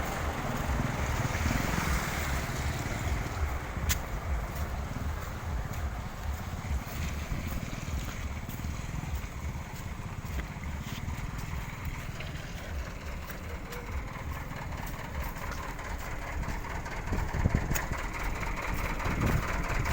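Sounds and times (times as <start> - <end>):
vehicle engine running at low revs: 0.0 - 19.9.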